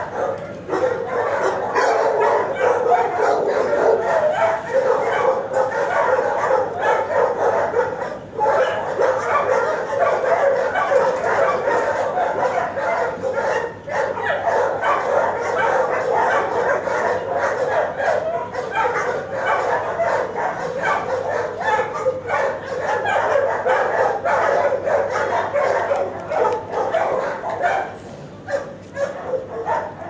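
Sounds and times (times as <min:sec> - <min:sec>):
many dogs barking and yipping: 0:00.0 - 0:30.0.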